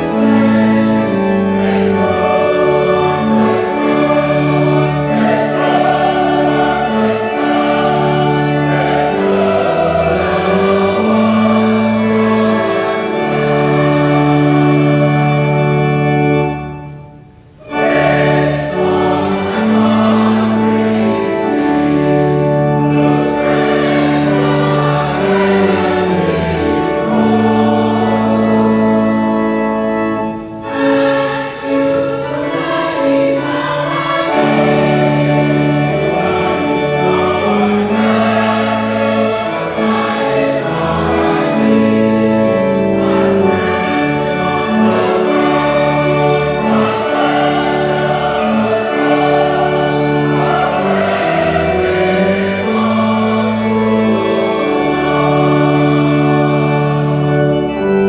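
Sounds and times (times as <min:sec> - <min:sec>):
choir singing a hymn: 0:00.0 - 0:58.0
organ chords: 0:00.0 - 0:58.0.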